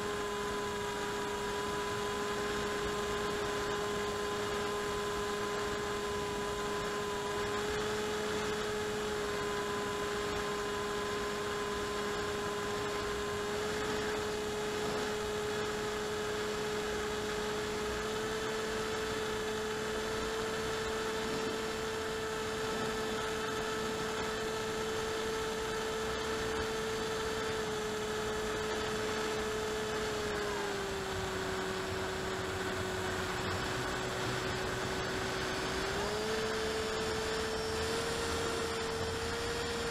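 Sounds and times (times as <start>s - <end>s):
electric motor and propeller: 0.0s - 39.9s.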